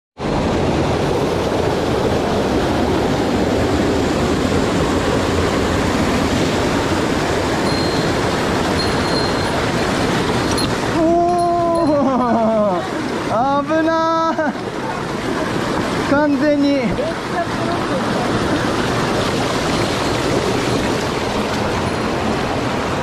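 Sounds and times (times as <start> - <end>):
mountain stream rushing: 0.2 - 23.0.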